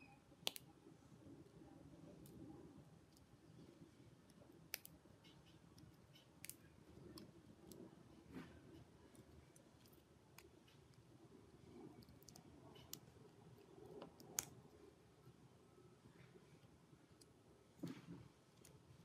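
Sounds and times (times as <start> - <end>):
low room noise: 0.0 - 19.0.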